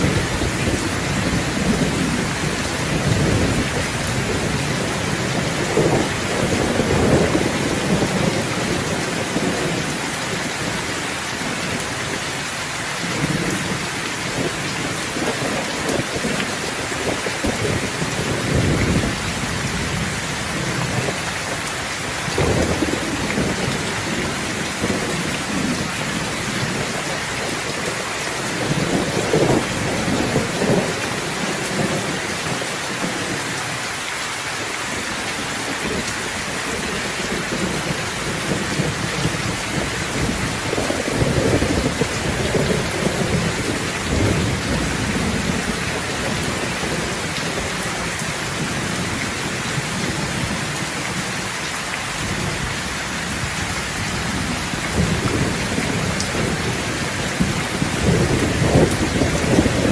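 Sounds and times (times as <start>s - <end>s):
thunder rumbling: 0.0s - 12.2s, 13.0s - 33.8s, 35.0s - 59.9s
heavy rain: 0.0s - 59.9s.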